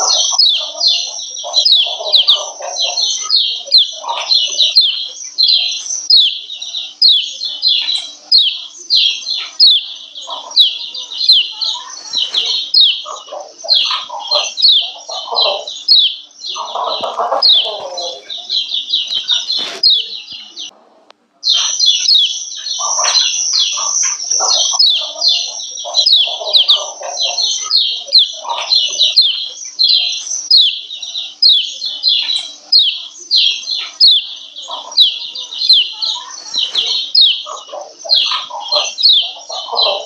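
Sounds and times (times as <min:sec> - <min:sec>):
bird chirping rapidly: 0:00.0 - 0:20.7, 0:21.4 - 0:40.0
lower bird chattering: 0:00.0 - 0:40.0.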